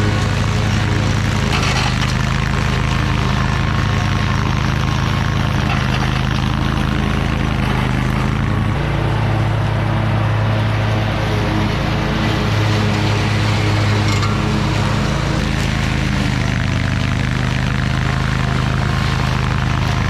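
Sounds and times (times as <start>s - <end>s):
mower engine running: 0.0s - 20.0s.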